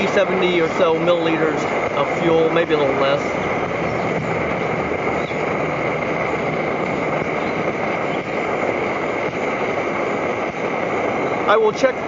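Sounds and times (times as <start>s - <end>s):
stove burner rushing flame: 0.0s - 12.0s.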